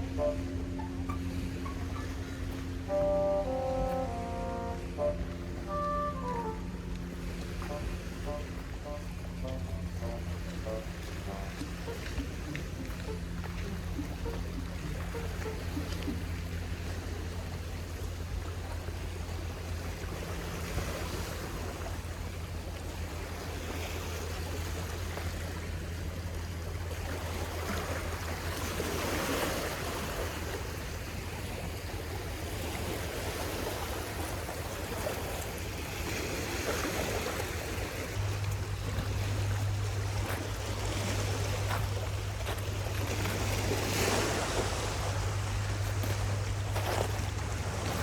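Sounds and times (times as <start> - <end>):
steady low hum: 0.0 - 28.4, 37.4 - 48.0
waves breaking on shore: 0.0 - 48.0.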